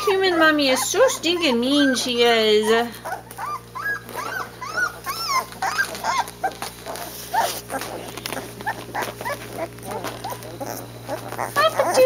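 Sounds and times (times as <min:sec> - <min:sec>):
puppies whimpering and squeaking: 0:00.0 - 0:12.0.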